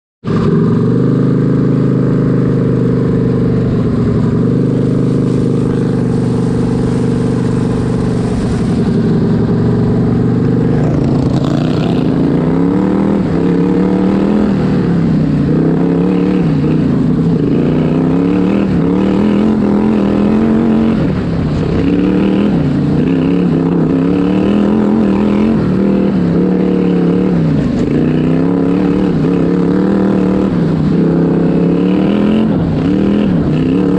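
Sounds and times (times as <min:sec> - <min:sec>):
lawn tractor engine revving: 0:00.2 - 0:33.9.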